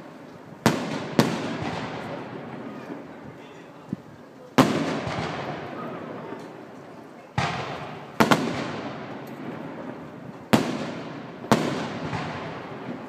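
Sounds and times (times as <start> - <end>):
fireworks bangs with echo: 0.0 - 3.9, 4.6 - 13.0.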